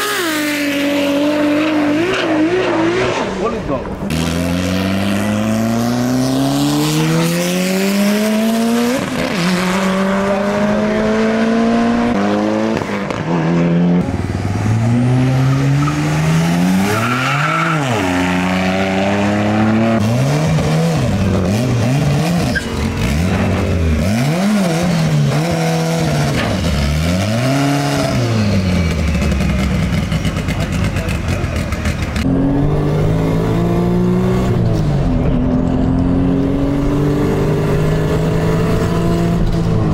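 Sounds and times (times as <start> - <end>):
car engines accelerating hard: 0.0 - 39.9.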